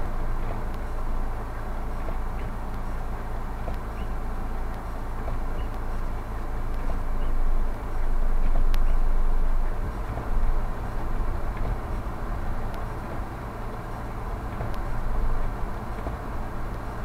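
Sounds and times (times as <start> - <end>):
faint ticks: 0.0 - 9.3, 9.9 - 17.0
low rumble inside car cabin: 0.0 - 17.0.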